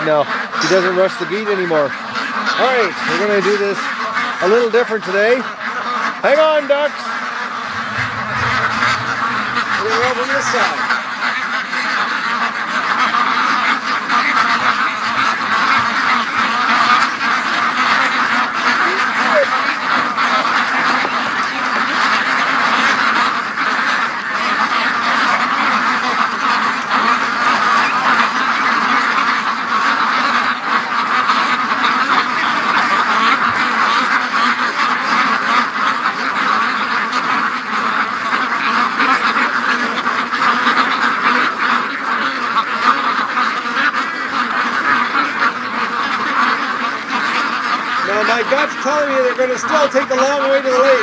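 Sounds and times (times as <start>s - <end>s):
ducks quacking: 0.0s - 51.0s.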